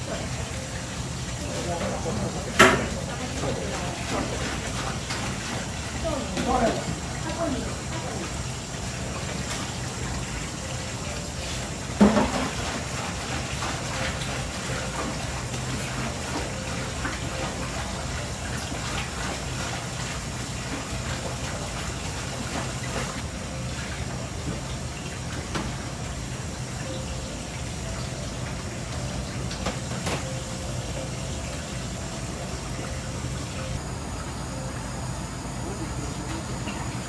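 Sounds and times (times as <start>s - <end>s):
water rushing: 0.0s - 37.0s.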